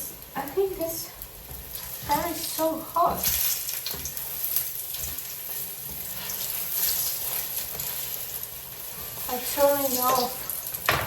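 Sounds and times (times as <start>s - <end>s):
pancakes sizzling in oil: 0.0s - 11.0s.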